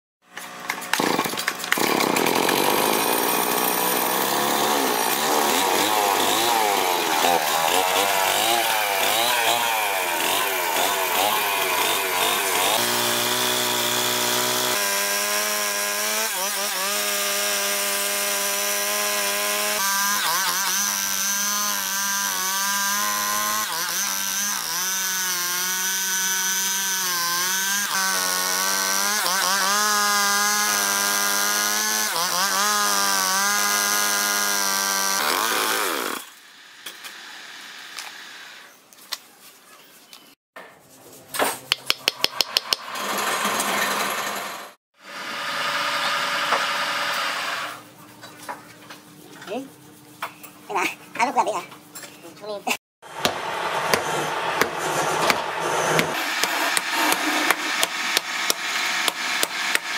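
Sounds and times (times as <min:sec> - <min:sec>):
chainsaw cutting log: 0:00.3 - 0:38.7, 0:41.8 - 0:47.8, 0:53.0 - 0:59.9
chainsaw revving: 0:00.6 - 0:38.6, 0:42.4 - 0:47.8, 0:53.0 - 0:59.9.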